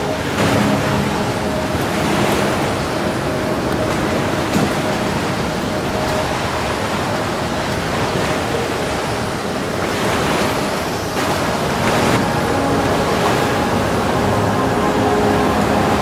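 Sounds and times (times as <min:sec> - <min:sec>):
waves breaking on stone shore: 0:00.0 - 0:16.0
wind: 0:00.0 - 0:16.0.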